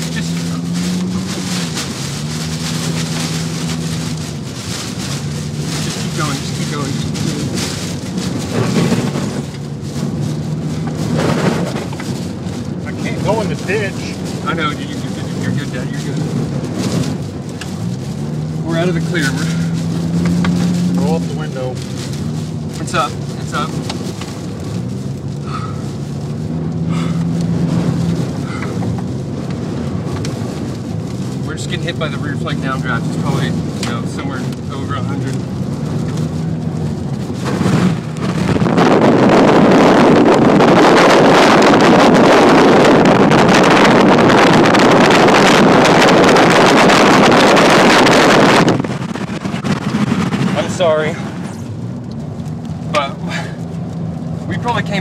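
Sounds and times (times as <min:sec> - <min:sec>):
car engine running: 0:00.0 - 0:55.0
strong wind buffeting a car: 0:00.0 - 0:55.0.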